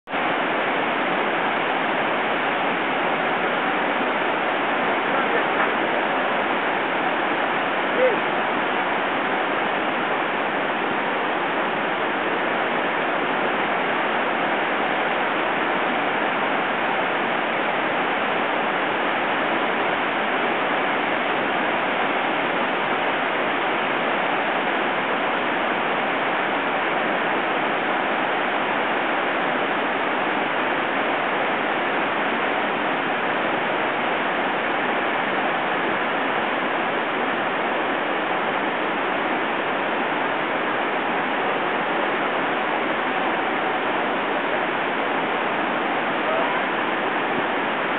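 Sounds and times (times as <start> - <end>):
waterfall rushing: 0.1 - 47.9.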